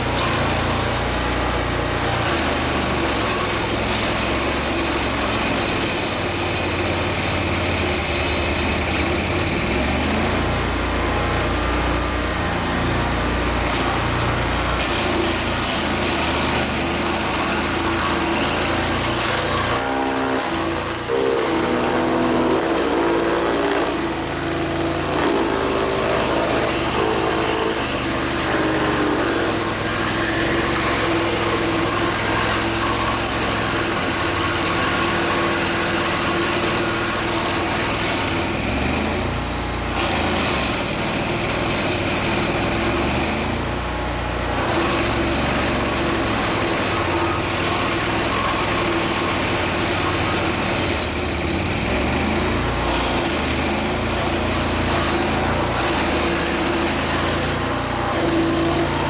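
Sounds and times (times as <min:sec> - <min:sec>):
engine running and revving: 0:00.0 - 0:59.0.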